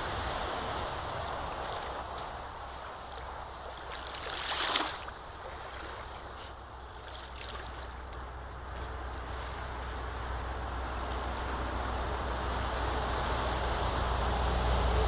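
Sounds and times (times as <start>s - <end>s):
small waves lapping: 0.0s - 14.4s
dog paws digging in wet sand: 0.1s - 13.6s.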